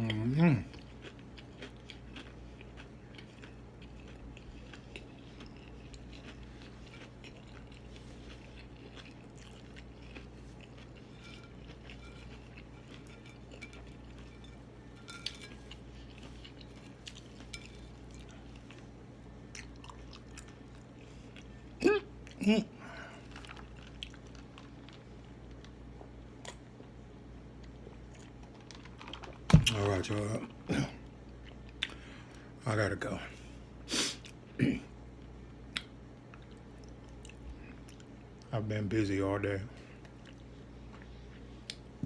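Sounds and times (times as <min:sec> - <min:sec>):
person chewing and crunching: 0:00.0 - 0:26.9, 0:27.5 - 0:32.2, 0:35.2 - 0:38.5, 0:39.8 - 0:42.0
low electrical hum: 0:00.0 - 0:42.0.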